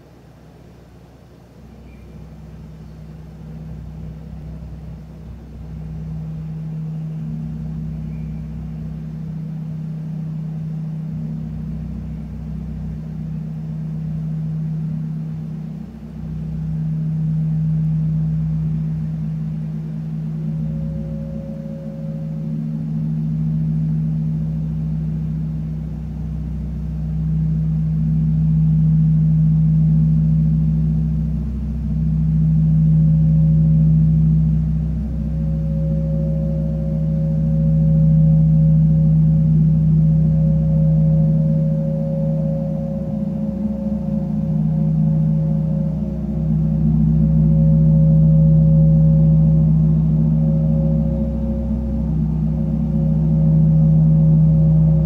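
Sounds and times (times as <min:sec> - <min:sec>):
large gong hum: 0:00.0 - 0:55.0.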